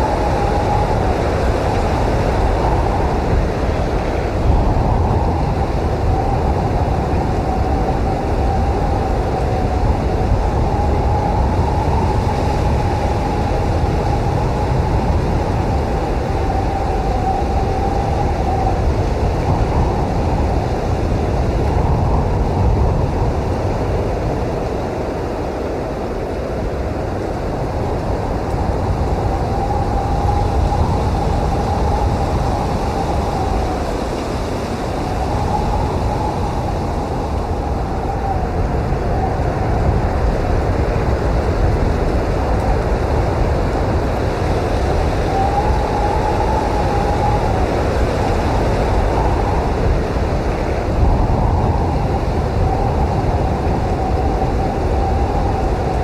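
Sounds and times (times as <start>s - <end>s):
wind blowing with deep rumble: 0.0s - 56.0s.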